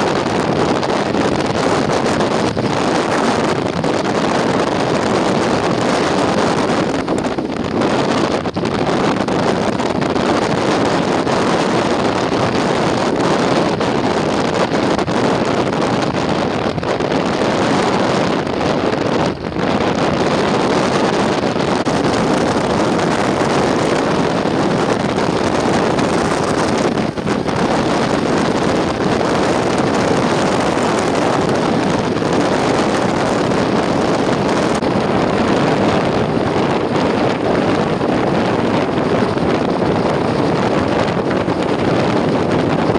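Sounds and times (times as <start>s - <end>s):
strong wind blowing across microphone: 0.0s - 42.9s.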